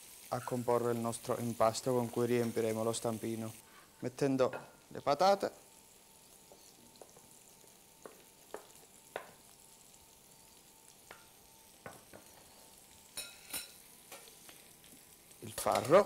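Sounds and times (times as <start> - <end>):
pan sizzling: 0.0 - 16.0.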